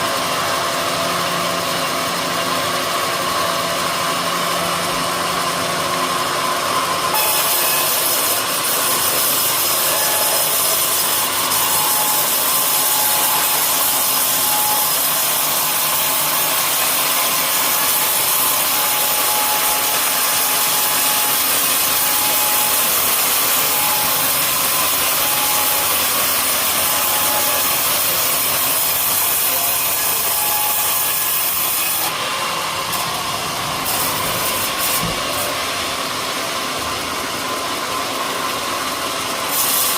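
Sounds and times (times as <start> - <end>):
saw blade cutting wood: 0.0 - 39.9
sawmill running without load: 0.0 - 39.9.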